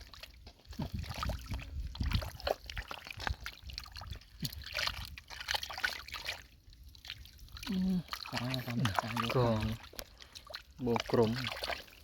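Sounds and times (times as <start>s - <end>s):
hands squelching in wet mud: 0.0s - 12.0s
water splashing and dripping: 0.0s - 12.0s.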